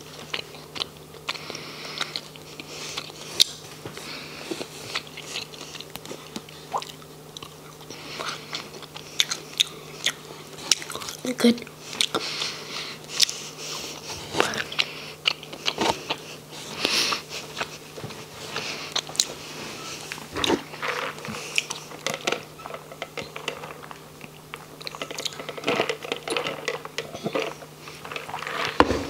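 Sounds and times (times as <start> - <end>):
chewing with wet smacks: 0.1 - 28.4.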